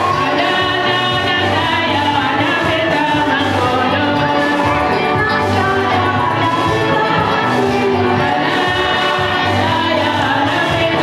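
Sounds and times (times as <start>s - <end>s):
group singing a church song: 0.0s - 11.0s
instrumental backing with bass: 0.0s - 11.0s.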